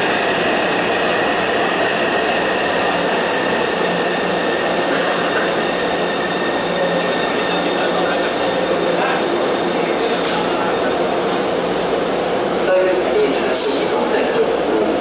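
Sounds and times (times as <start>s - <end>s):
train wheels on rail: 0.0s - 15.0s.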